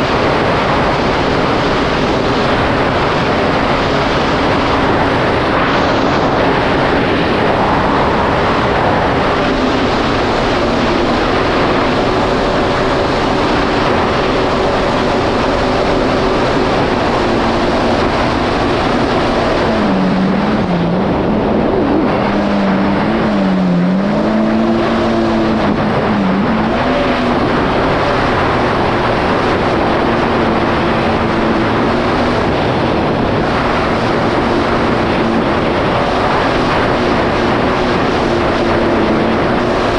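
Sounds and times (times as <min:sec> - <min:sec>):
jet ski engine: 0:00.0 - 0:39.9
rush of wind and water: 0:00.0 - 0:39.9.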